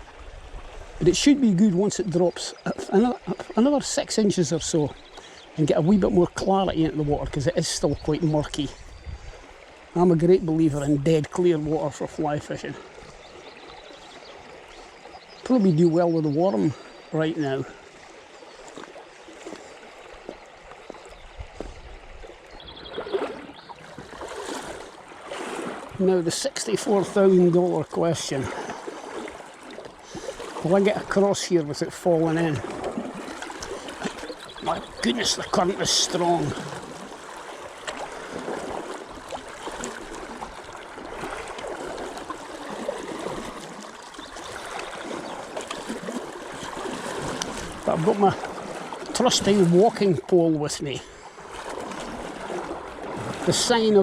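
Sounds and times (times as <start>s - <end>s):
river water rushing: 8.2s - 54.0s.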